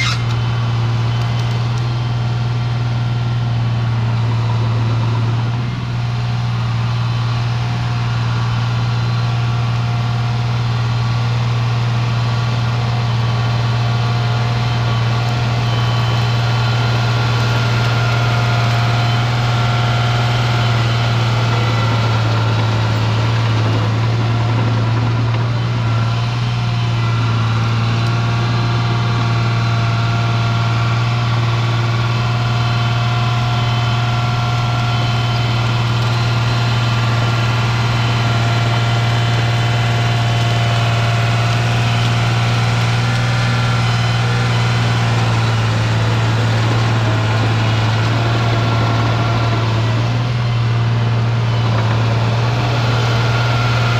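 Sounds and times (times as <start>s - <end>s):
diesel engine drone: 0.0s - 53.9s.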